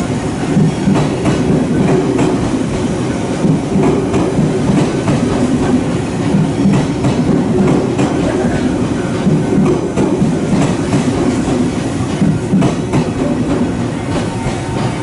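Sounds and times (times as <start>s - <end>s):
train rumbling: 0.0s - 15.0s
wheels clacking over rail joints: 0.4s - 15.0s.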